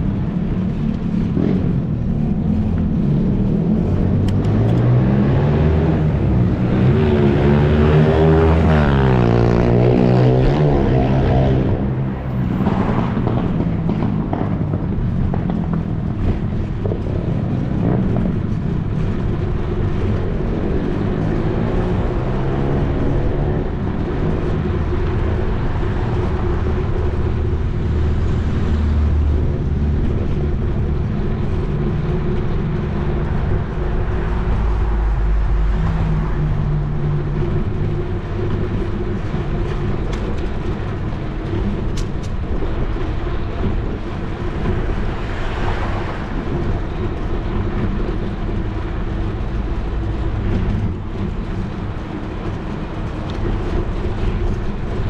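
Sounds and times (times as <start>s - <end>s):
vehicle engine passing: 0.0s - 55.0s
wind rumble on microphone: 0.0s - 55.0s.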